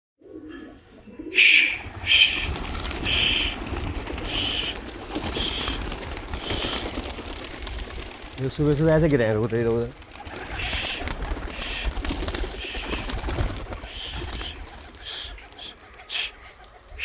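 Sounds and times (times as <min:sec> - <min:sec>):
birds calling: 0:00.2 - 0:17.0.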